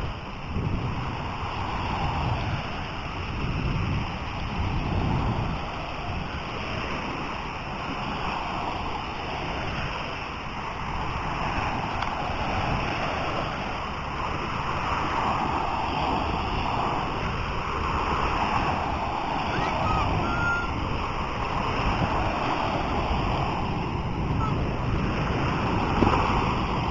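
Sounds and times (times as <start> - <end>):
surf washing up a beach: 0.0 - 26.9
wind on microphone: 0.0 - 26.9.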